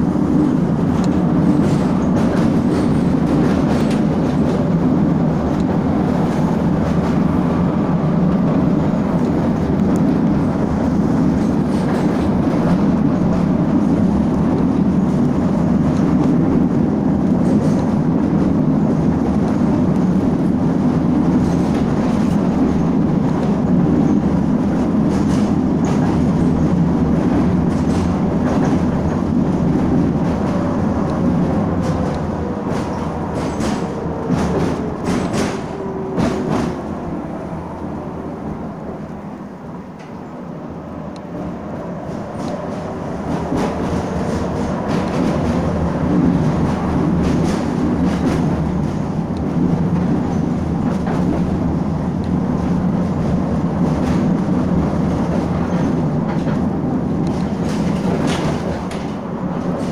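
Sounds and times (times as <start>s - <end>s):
low rumble of moving vehicle: 0.0s - 59.9s.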